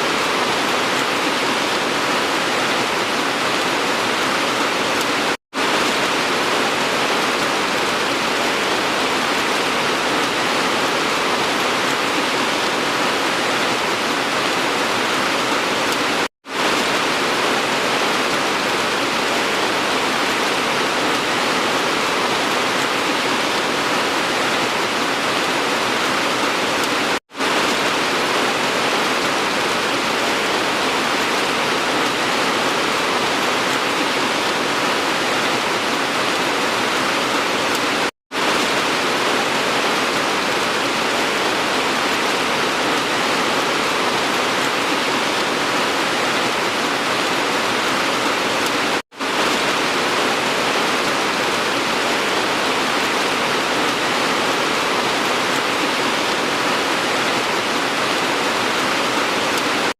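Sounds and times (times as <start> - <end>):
dense rain hiss: 0.0 - 59.9.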